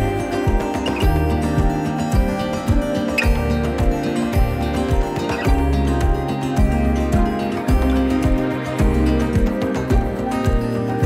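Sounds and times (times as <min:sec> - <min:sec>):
kick drum beat: 0:00.0 - 0:10.8
held synth tones: 0:00.0 - 0:11.0.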